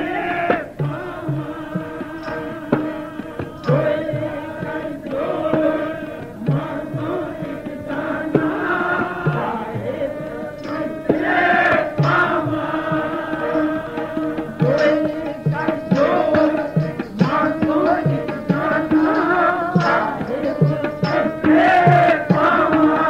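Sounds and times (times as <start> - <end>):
harmonium: 0.0 - 23.0
man singing: 0.0 - 23.0
tabla strokes: 0.0 - 23.0.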